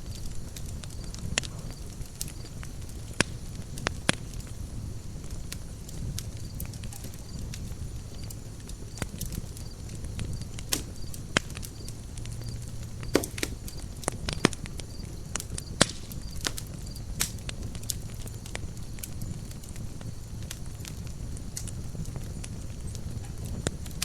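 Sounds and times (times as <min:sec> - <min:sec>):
burning wood popping and snapping: 0:00.0 - 0:24.0
low rumble of fire: 0:00.0 - 0:24.0.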